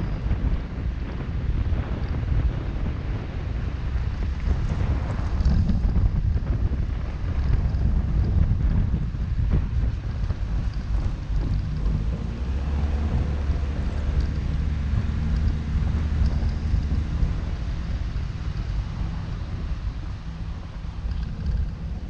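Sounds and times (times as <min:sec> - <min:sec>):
car engine and tyres rumbling: 0:00.0 - 0:22.0
wind noise on microphone: 0:00.0 - 0:22.0.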